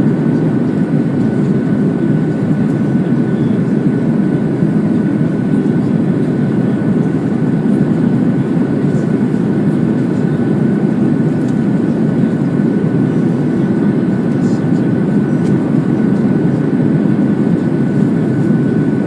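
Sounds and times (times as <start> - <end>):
faint steady whine: 0.0 - 19.0
jet airliner engine and airflow: 0.0 - 19.0.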